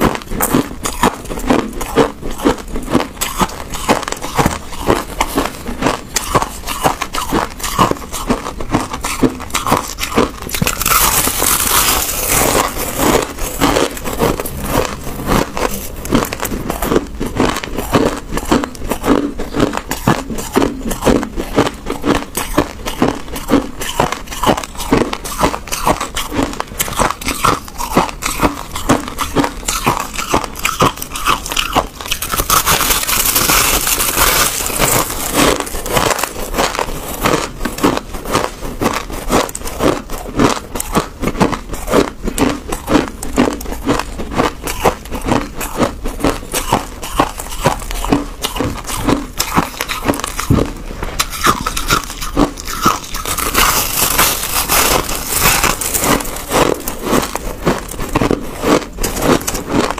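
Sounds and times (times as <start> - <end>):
crushed ice crunching: 0.0 - 59.9.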